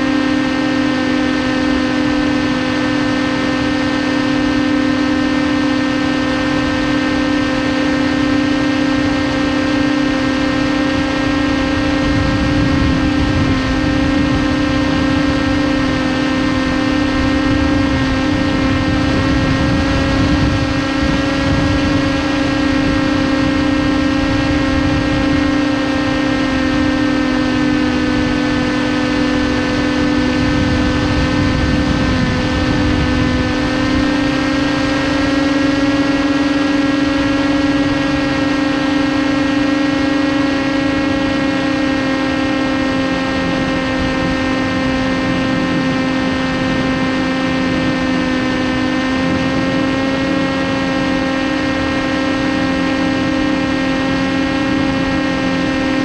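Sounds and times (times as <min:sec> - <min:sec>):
electric motor and propeller whining: 0:00.0 - 0:56.0
wind on microphone: 0:00.0 - 0:56.0.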